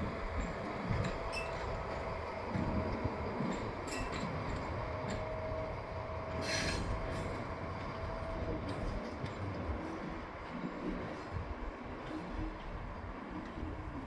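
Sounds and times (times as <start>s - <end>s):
locomotive engine rumble: 0.0s - 14.0s.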